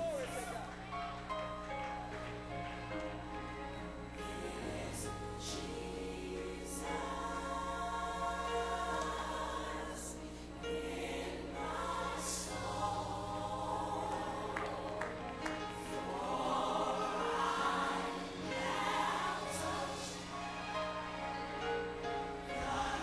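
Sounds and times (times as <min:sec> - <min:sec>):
choir singing gospel song: 0:00.0 - 0:00.8, 0:02.7 - 0:23.0.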